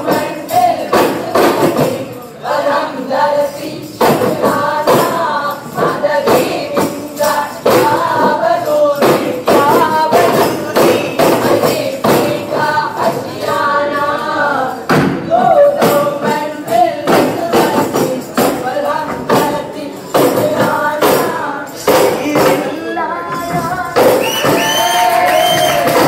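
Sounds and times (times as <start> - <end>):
frame drums beating: 0.0 - 2.8, 3.6 - 26.0
group singing in chorus: 0.0 - 26.0.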